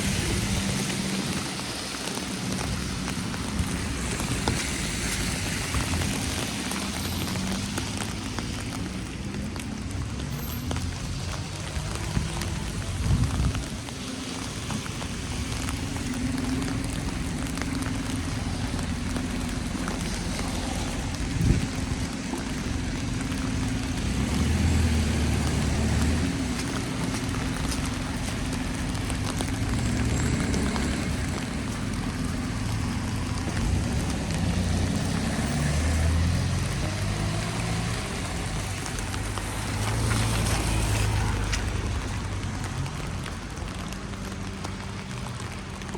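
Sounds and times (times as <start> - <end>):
vehicle engine rumble: 0.0 - 45.9
wet snow or rain pattering: 0.0 - 45.9.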